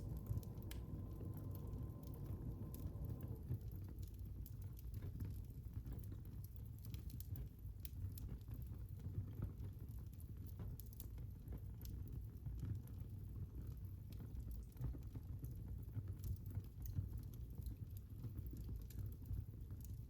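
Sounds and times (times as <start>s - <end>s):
fire crackling in fireplace: 0.0s - 20.0s.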